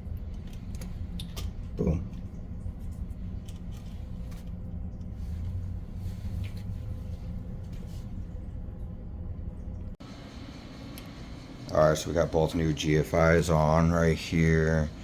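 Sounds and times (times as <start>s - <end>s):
low mechanical hum with high tone: 0.0s - 15.0s.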